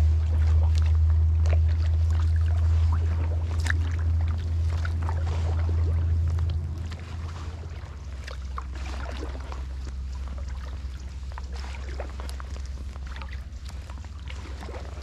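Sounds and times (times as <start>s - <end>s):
kayak paddle dipping in water: 0.0s - 15.0s
steady low rumble: 0.0s - 15.0s
water drips and small splashes: 0.0s - 15.0s.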